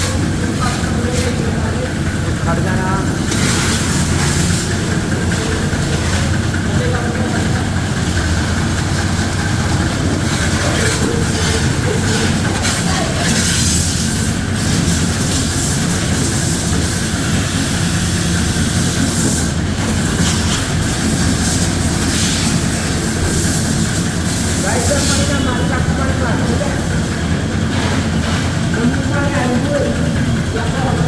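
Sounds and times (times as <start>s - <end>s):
pressure washer spraying: 0.0s - 31.0s.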